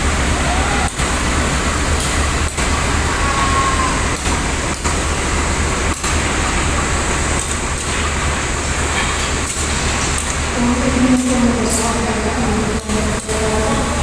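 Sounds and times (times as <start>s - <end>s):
stationary train rumble and hiss: 0.0s - 14.0s.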